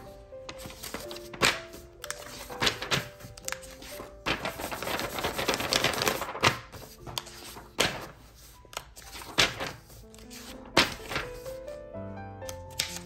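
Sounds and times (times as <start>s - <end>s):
soft background music: 0.0s - 13.0s
crackly handling noise: 0.4s - 11.5s.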